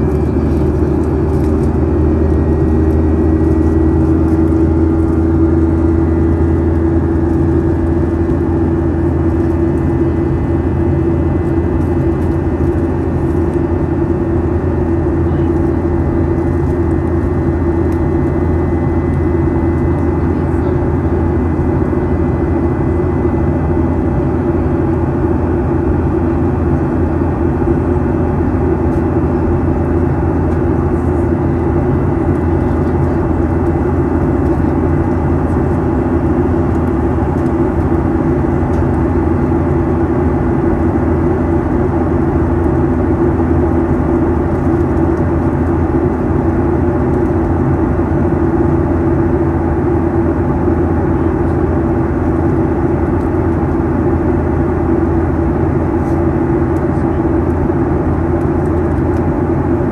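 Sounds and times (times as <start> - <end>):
airplane cabin engine hum: 0.0 - 59.9.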